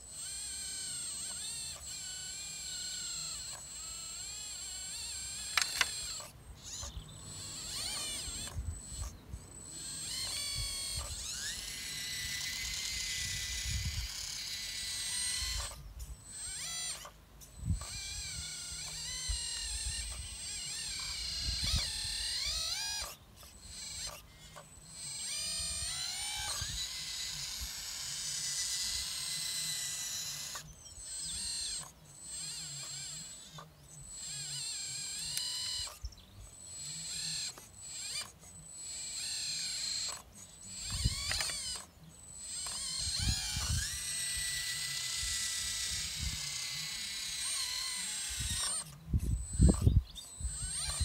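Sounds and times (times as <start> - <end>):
hydraulic pump whining: 0.0 - 51.0.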